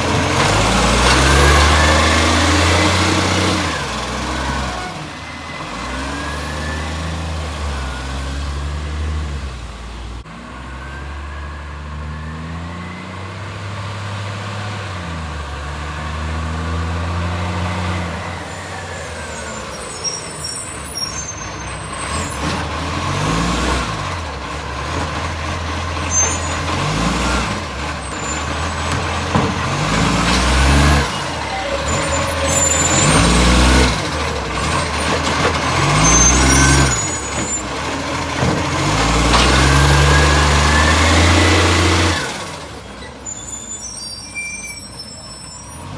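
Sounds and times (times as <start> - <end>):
diesel truck engine revving: 0.0 - 45.9.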